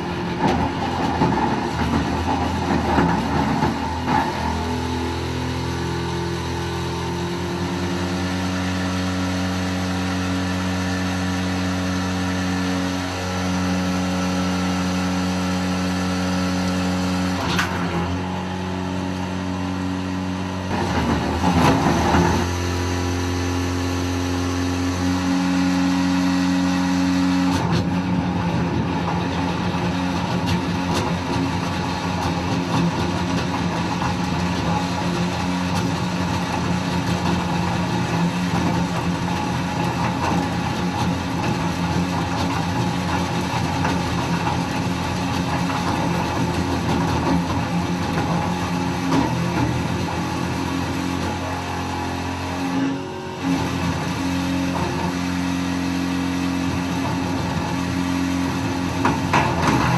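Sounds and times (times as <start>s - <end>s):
grinder pump motor hum: 6.4s - 59.9s.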